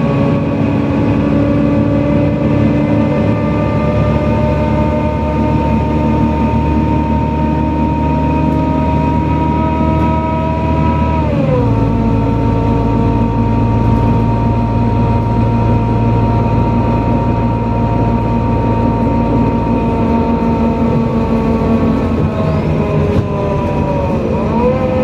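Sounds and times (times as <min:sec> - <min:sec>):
bus engine whining: 0:00.0 - 0:25.0.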